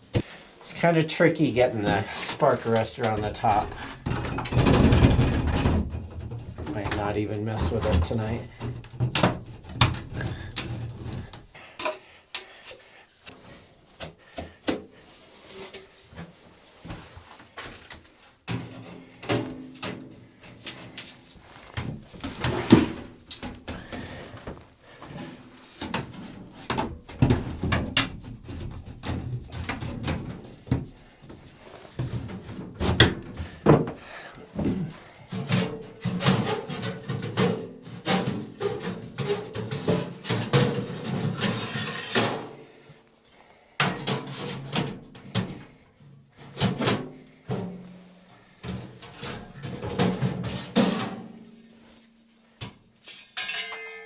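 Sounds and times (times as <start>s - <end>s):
camping gear knocking and rattling: 1.5s - 12.5s, 13.2s - 41.6s, 43.8s - 51.5s.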